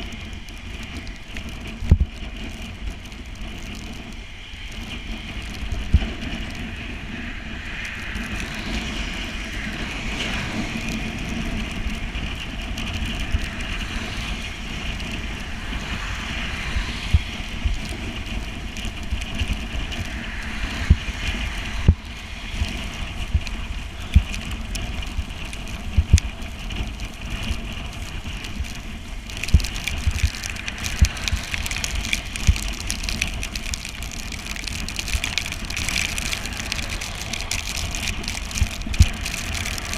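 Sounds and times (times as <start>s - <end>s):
wet road spray: 0.0s - 39.9s
wind on microphone: 0.0s - 39.9s.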